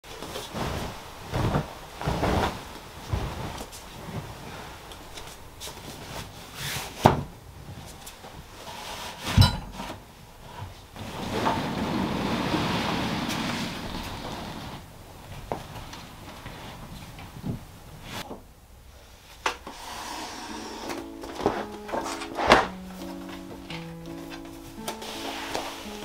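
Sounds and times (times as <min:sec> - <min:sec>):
fabric rustling: 0:00.1 - 0:18.3, 0:21.0 - 0:26.0.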